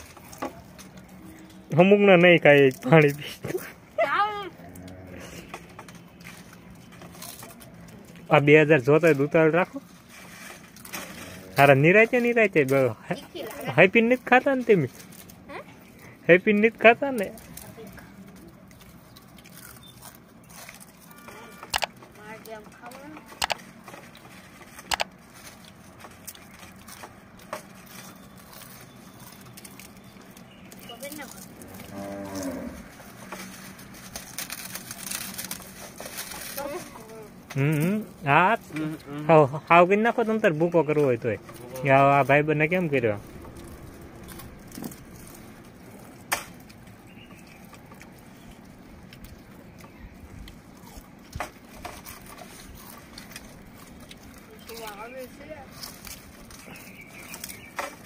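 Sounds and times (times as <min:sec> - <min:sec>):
low background noise: 0:00.0 - 0:58.0
crisp wafers crunching: 0:04.5 - 0:58.0.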